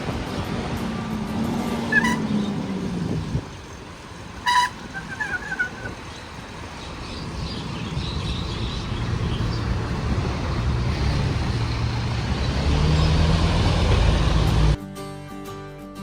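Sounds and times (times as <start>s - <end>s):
road noise: 0.0s - 14.8s
vehicle engine hum: 0.0s - 14.8s.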